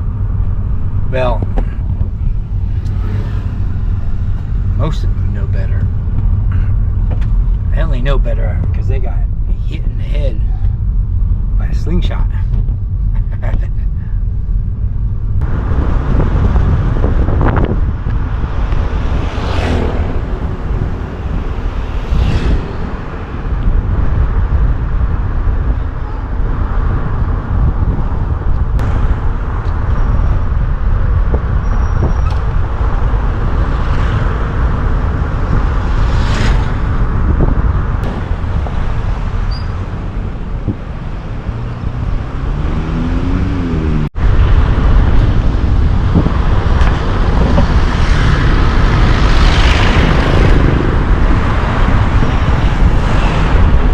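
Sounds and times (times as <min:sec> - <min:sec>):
vehicles whooshing past: 0:00.0 - 0:11.4, 0:14.6 - 0:53.9
vehicle road noise rumble: 0:00.0 - 0:53.9.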